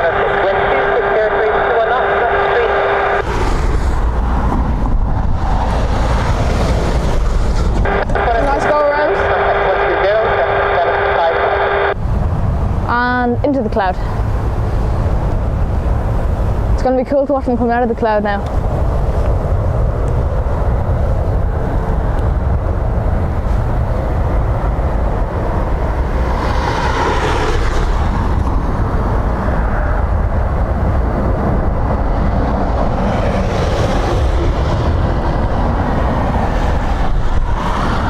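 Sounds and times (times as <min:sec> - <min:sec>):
strong wind buffeting microphone: 0:00.0 - 0:38.0.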